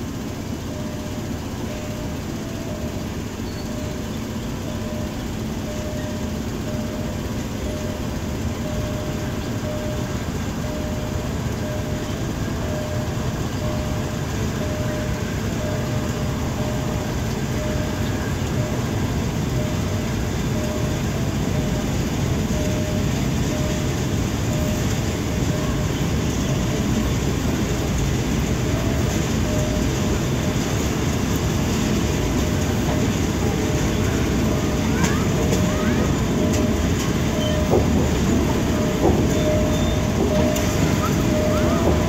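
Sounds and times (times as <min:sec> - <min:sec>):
faint pulsing tone: 0:00.0 - 0:42.0
train wheels rumbling on rails: 0:00.0 - 0:42.0.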